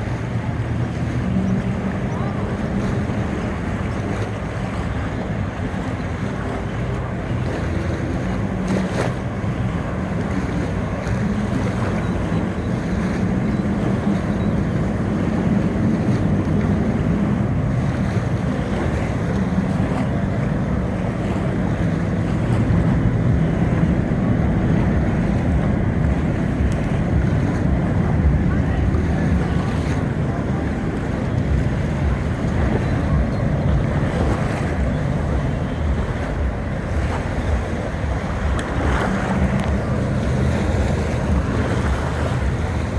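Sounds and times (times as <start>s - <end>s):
motorboat engines humming: 0.0s - 42.9s
waves washing: 0.0s - 42.9s
wind buffeting microphone: 0.0s - 42.9s.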